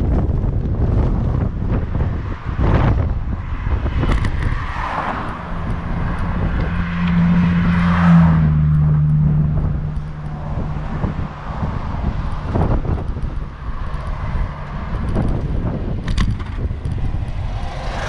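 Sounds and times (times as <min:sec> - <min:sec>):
road traffic: 0:00.0 - 0:18.0
wind buffeting microphone: 0:00.0 - 0:18.0
vehicle passing by: 0:01.0 - 0:18.0.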